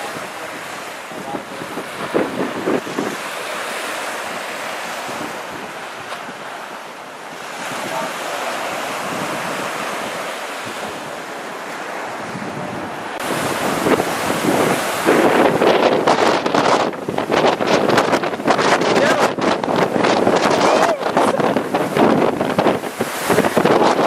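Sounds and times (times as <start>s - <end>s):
waves breaking: 0.0s - 24.0s
wind gusts buffeting microphone: 0.0s - 24.0s
wind roaring: 0.0s - 24.0s.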